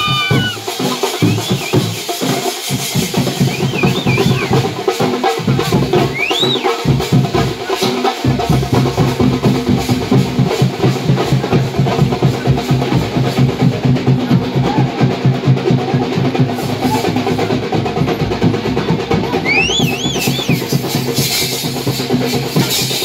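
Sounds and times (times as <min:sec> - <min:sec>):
music with rapid drumming: 0:00.0 - 0:23.0.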